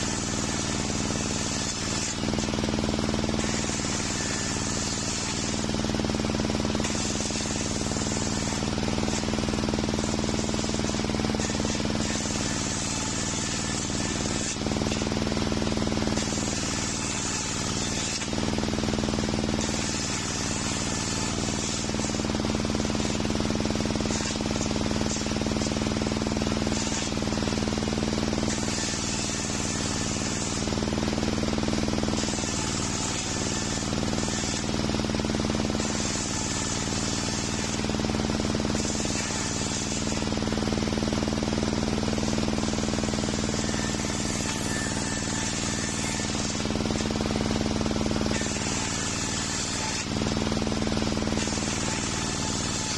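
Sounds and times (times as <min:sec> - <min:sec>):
engine running: 0:00.0 - 0:45.0
circular saw cutting wood: 0:00.0 - 0:52.9.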